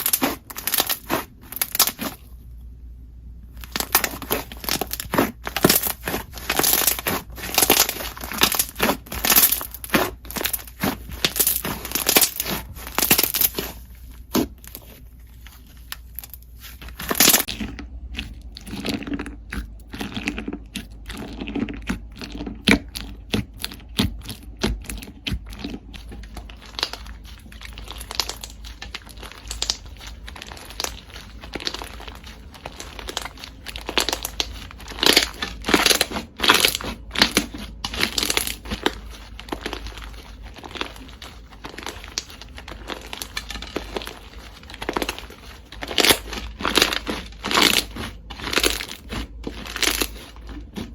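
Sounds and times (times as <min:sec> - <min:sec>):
slime crackling and clicking: 0:00.0 - 0:02.2, 0:03.6 - 0:50.9.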